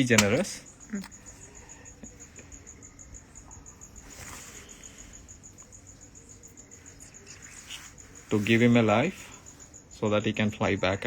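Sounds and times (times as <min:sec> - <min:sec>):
faint cricket chirping: 0:00.0 - 0:11.0.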